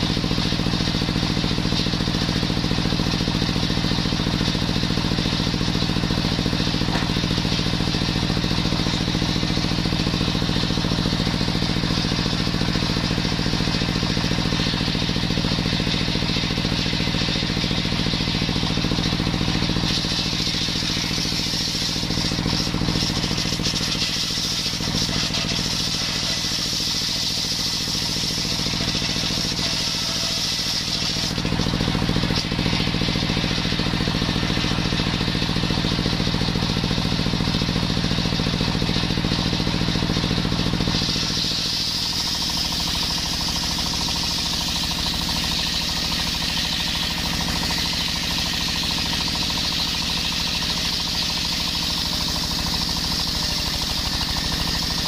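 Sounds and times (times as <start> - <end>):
saw blade cutting wood: 0.0 - 36.7, 37.4 - 55.0
stationary engine running: 0.0 - 55.0.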